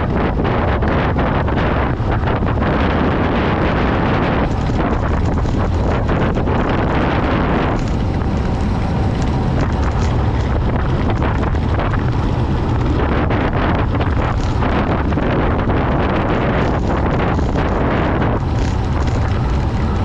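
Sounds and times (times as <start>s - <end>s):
wind roaring over microphone: 0.0s - 20.0s.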